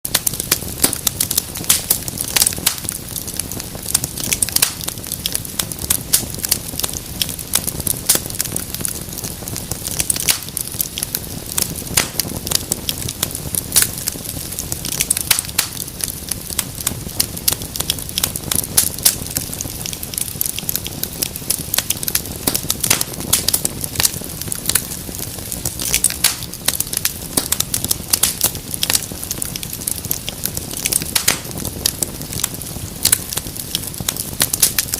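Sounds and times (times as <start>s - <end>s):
low rumble of flames: 0.1s - 34.9s
sharp pops and snaps: 0.1s - 34.9s
wood fire crackling: 0.1s - 34.9s.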